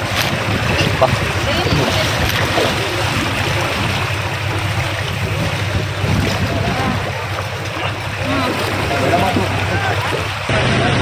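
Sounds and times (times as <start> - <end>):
low steady hum: 0.0 - 10.8
floodwater rushing: 0.0 - 11.0.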